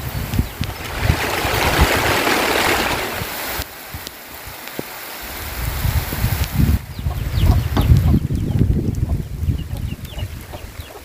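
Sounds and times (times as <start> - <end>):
wind buffeting microphone: 0.0 - 4.7, 5.3 - 11.0
rain falling: 0.0 - 11.0.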